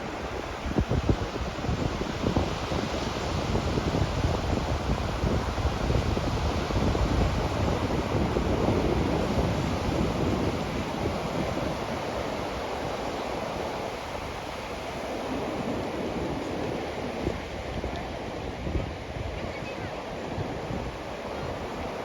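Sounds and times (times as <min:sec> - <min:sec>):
sea waves washing onto beach: 0:00.0 - 0:22.0
wind buffeting microphone: 0:00.0 - 0:22.0.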